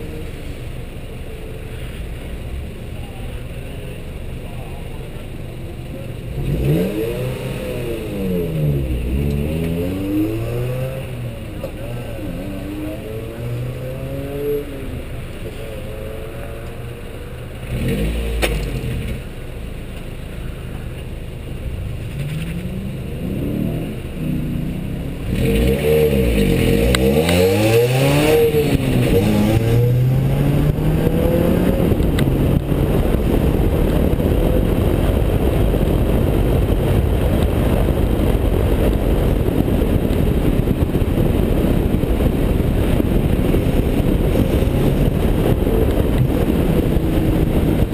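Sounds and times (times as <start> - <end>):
race car engine revving: 5.1 - 19.5, 21.6 - 47.9
rushing noise: 6.3 - 47.9.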